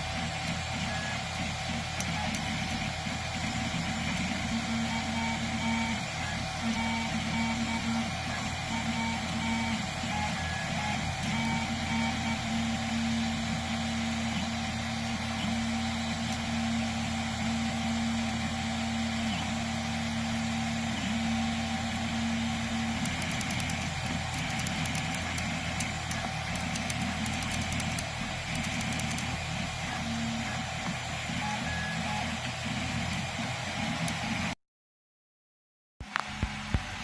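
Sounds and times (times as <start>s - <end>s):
stepper motors whining: 0.0s - 34.5s
cooling fans humming: 0.0s - 34.6s.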